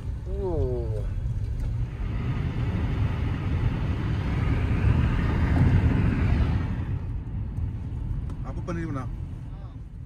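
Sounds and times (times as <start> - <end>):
road vehicle rumble with hiss: 0.0 - 10.0.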